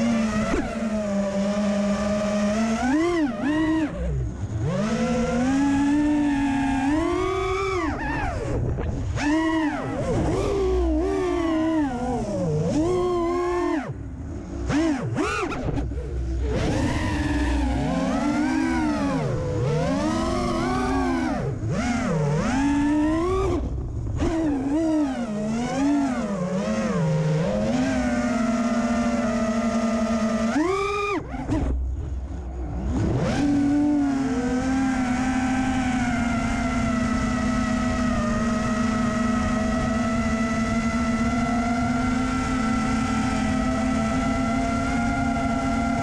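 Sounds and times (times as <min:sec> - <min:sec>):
drone motors whining: 0:00.0 - 0:46.0.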